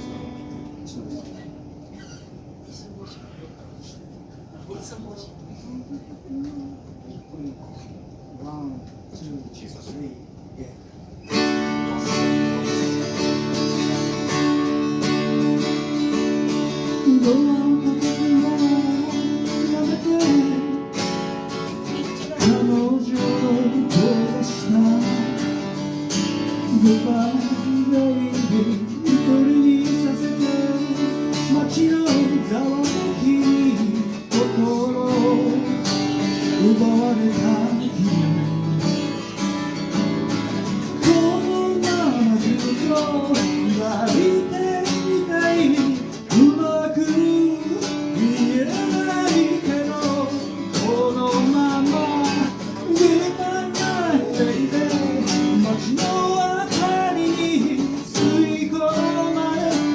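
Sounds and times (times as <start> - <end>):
acoustic guitar strumming: 0.0 - 1.1, 11.2 - 59.9.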